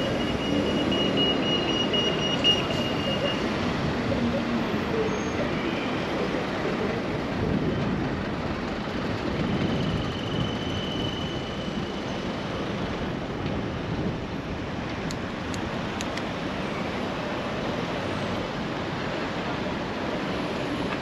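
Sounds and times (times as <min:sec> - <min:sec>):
traffic and road noise: 0:00.0 - 0:21.0.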